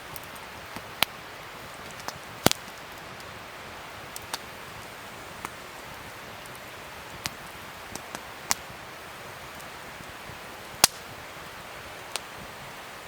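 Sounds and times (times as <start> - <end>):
sharp fire pops: 0.0 - 3.3, 4.0 - 8.8, 9.4 - 11.3, 11.9 - 12.6
wood fire crackling: 0.0 - 13.0.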